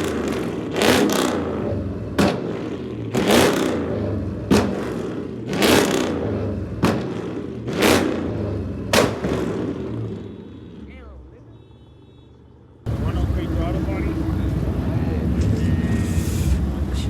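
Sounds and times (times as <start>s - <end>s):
car engine idling and revving: 0.0s - 11.6s, 12.4s - 17.0s.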